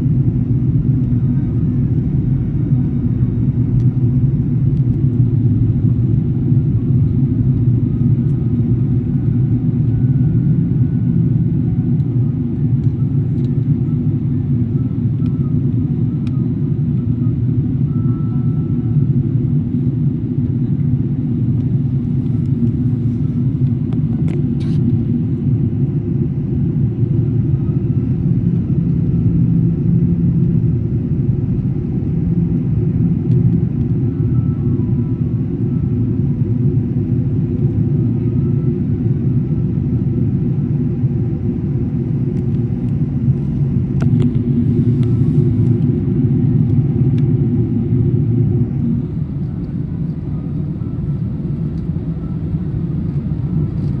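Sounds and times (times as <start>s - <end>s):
airliner rumble: 0.0s - 54.0s.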